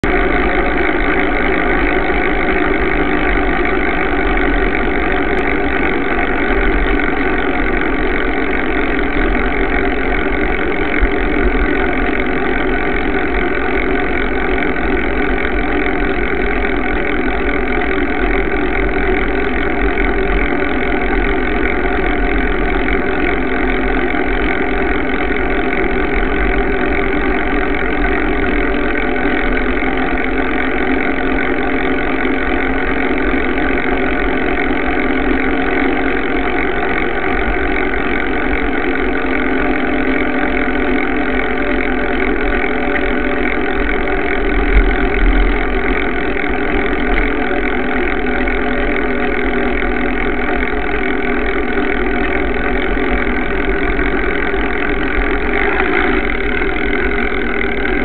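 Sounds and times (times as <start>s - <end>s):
bike tyre road and wind noise: 0.0s - 58.0s.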